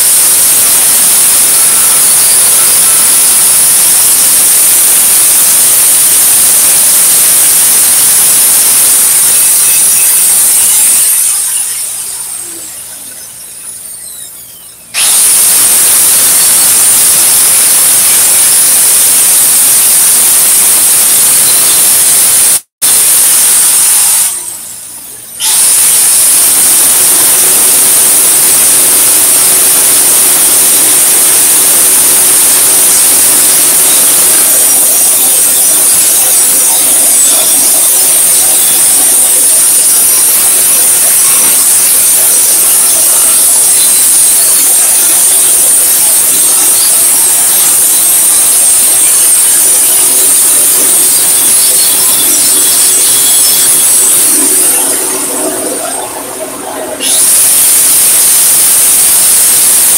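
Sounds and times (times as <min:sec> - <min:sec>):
angle grinder grinding steel: 0:00.0 - 0:59.9.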